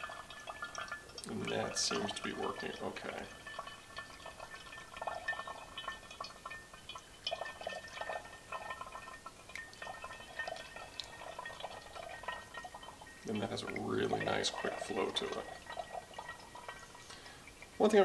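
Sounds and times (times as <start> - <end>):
water pouring into a lid: 0.0 - 18.0
water trickling and gurgling: 0.0 - 18.0.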